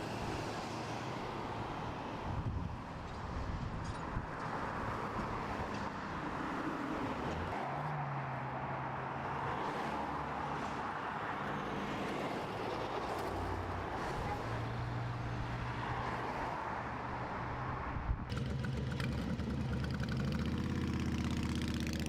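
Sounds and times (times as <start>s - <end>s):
cars going by: 0.0s - 22.0s.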